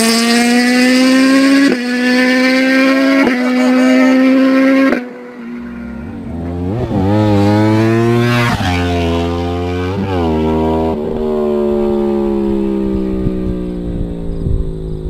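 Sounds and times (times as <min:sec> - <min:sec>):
motorcycle accelerating through gears: 0:00.0 - 0:15.0.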